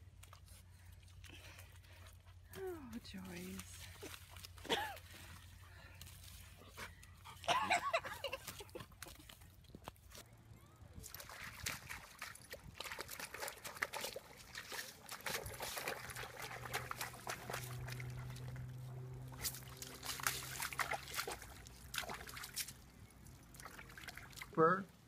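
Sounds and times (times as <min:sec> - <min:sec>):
dog splashing in puddle: 0:00.2 - 0:07.4, 0:08.1 - 0:10.2, 0:11.0 - 0:24.8.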